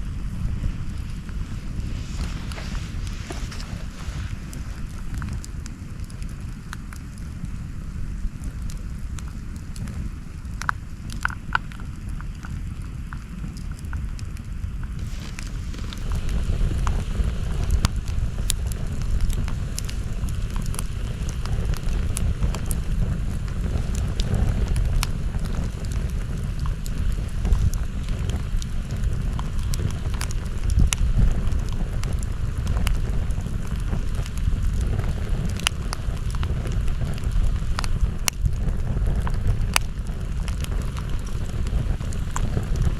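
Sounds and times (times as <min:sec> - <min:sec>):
low rumble: 0:00.0 - 0:12.9, 0:14.4 - 0:42.9
campfire crackling and popping: 0:00.0 - 0:42.9.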